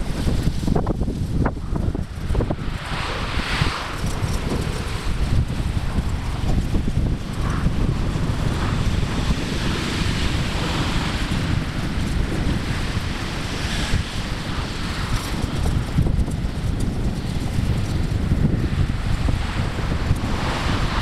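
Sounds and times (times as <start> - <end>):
bicycle tyres rolling on asphalt: 0.0 - 21.0
wind buffeting microphone: 0.0 - 21.0.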